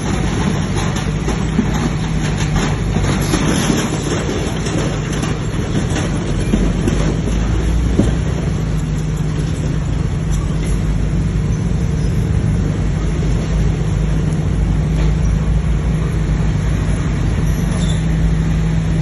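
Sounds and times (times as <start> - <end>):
bulldozer diesel engine running: 0.0 - 19.0
tracks clanking and rattling: 0.0 - 19.0.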